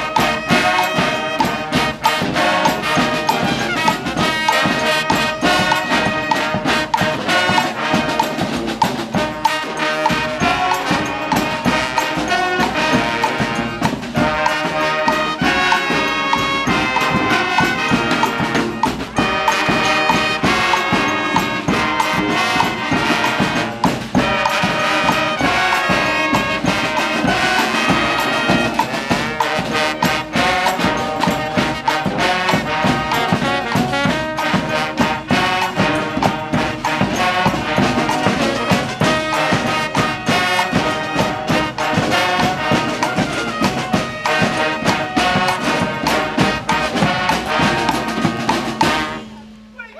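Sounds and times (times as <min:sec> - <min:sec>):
brass band playing: 0:00.0 - 0:49.9.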